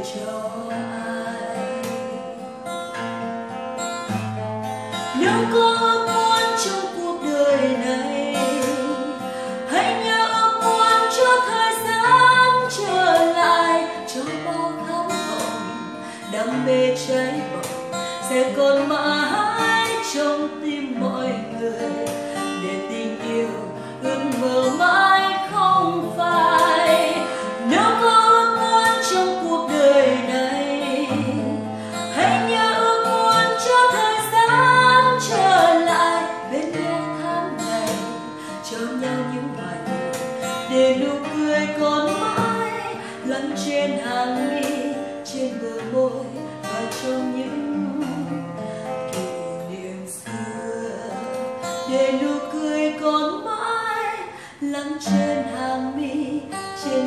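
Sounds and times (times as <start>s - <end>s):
woman singing: 0.0s - 2.9s, 4.0s - 57.0s
acoustic guitar: 0.0s - 57.0s.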